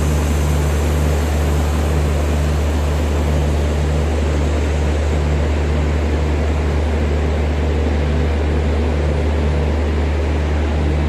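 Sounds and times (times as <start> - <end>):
diesel train engine idling: 0.0 - 11.0.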